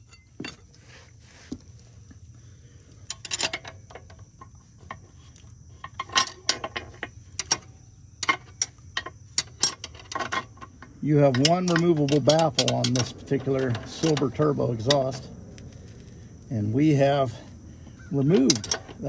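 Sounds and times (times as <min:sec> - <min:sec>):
metal exhaust clinking and scraping: 0:00.0 - 0:19.0.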